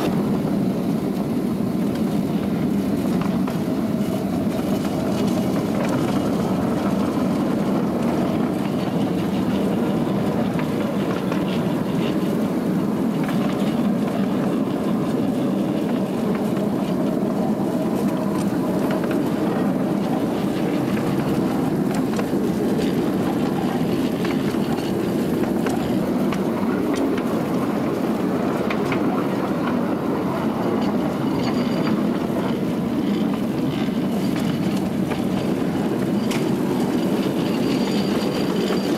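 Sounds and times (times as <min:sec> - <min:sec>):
steam train running: 0:00.0 - 0:38.9.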